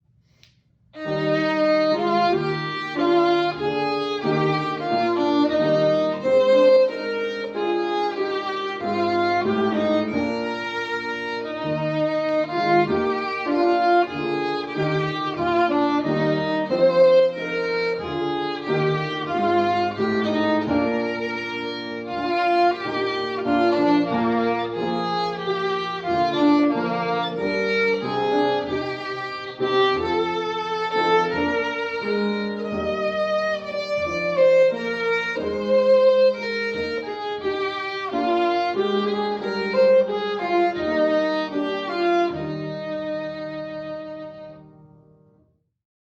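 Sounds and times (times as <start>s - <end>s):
violin melody: 1.0s - 45.2s.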